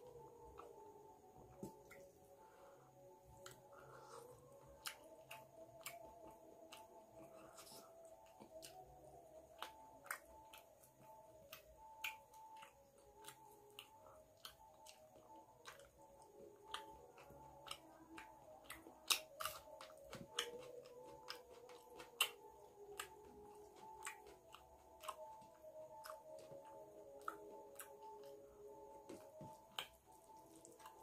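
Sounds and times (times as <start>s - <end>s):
faint background music: 0.0s - 31.0s
person chewing: 1.5s - 31.0s.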